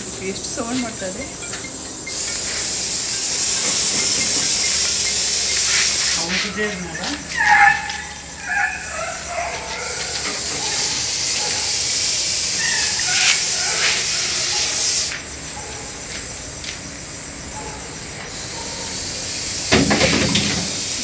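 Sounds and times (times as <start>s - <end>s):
snake hissing: 0.0s - 21.0s.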